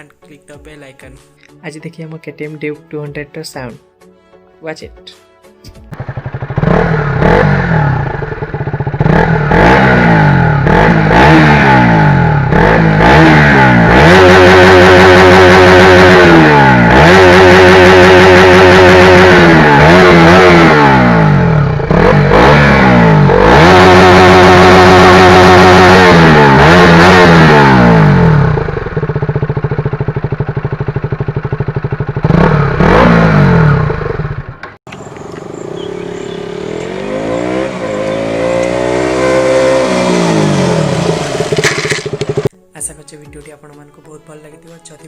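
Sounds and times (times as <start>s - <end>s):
motorcycle engine revving: 5.8s - 42.5s.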